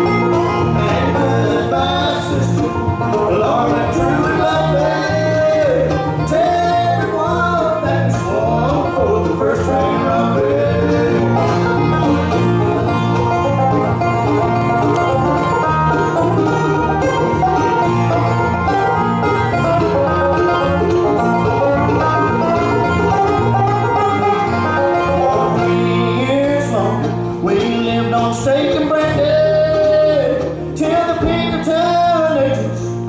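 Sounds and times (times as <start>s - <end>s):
acoustic guitar: 0.0s - 33.0s
banjo picking: 0.0s - 33.0s
mandolin: 0.0s - 33.0s.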